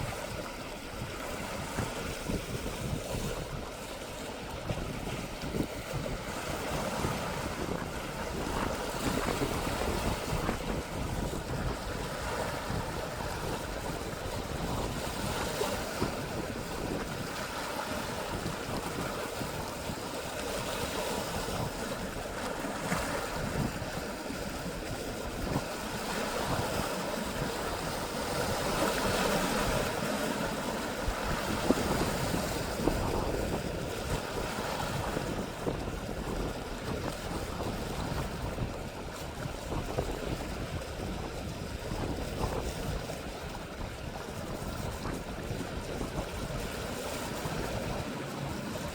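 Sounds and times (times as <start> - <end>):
sea waves washing: 0.0 - 48.9
wind buffeting microphone: 0.0 - 48.9.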